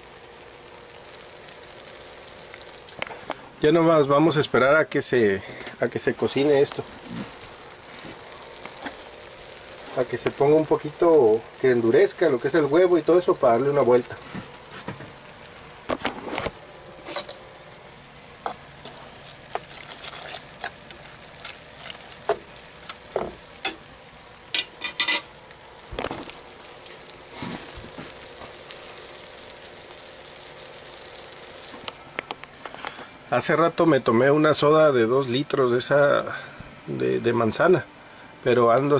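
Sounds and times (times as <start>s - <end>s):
egg sizzling in a pan: 0.0s - 4.1s, 5.8s - 33.0s.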